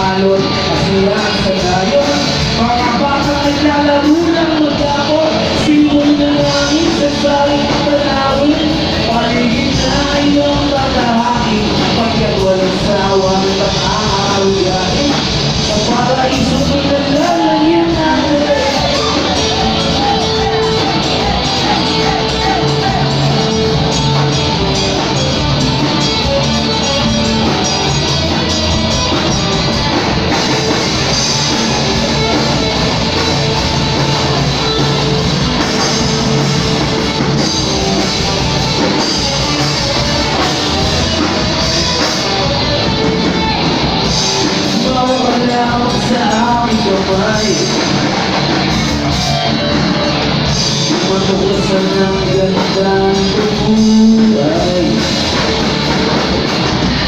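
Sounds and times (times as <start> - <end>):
bass guitar: 0.0 - 57.0
electric guitar: 0.0 - 57.0
rock band playing live: 0.0 - 57.0.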